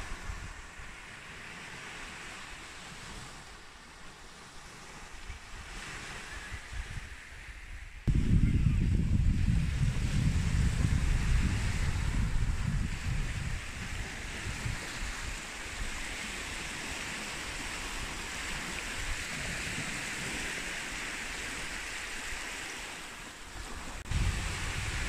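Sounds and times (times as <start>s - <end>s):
small waves washing on sand: 0.0s - 25.0s
wind rumbling on microphone: 0.0s - 25.0s.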